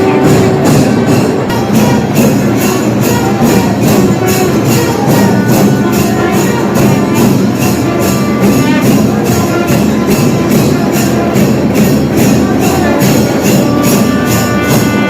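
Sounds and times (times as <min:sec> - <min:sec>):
bright high percussive stroke: 0:00.0 - 0:15.0
music with steady beat: 0:00.0 - 0:15.0.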